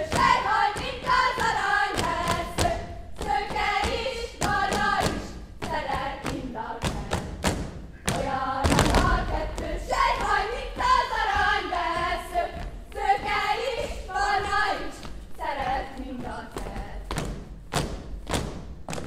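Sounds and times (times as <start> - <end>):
girls singing folk song: 0.0 - 19.0.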